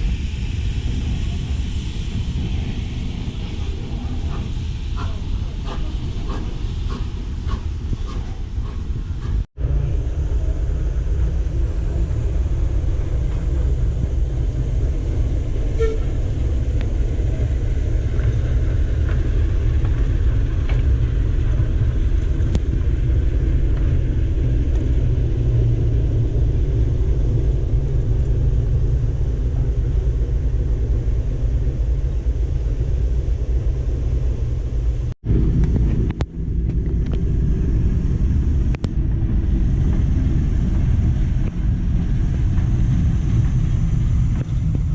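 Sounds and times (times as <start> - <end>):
loud low rumble: 0.0 - 44.9.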